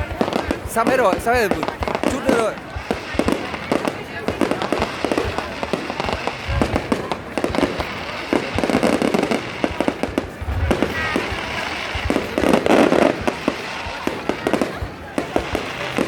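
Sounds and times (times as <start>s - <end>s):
fireworks crackling pops: 0.0s - 16.0s.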